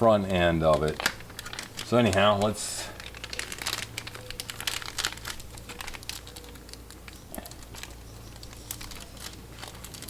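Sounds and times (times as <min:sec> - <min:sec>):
rustling and crinkling: 0:00.0 - 0:10.0.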